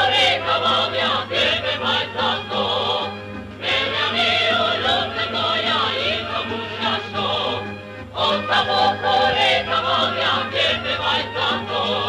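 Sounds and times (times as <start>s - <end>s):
choir singing: 0.0s - 12.0s
instrumental accompaniment: 0.0s - 12.0s.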